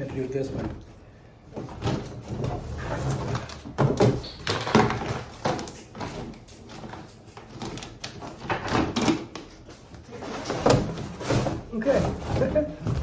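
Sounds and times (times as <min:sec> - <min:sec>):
plastic fan parts knocking and rattling: 0:01.5 - 0:13.0.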